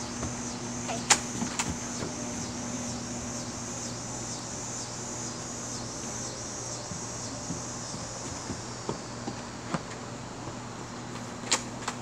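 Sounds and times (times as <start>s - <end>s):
high pulsing hiss: 0.0s - 11.1s
low steady hum: 0.0s - 12.0s.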